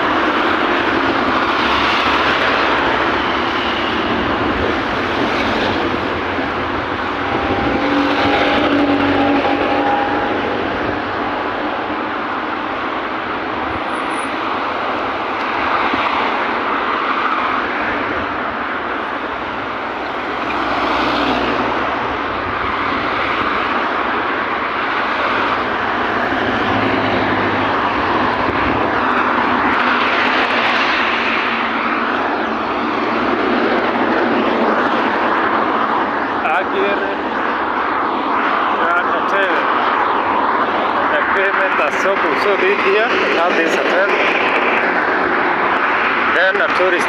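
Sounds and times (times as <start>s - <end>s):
rushing traffic: 0.0s - 47.0s.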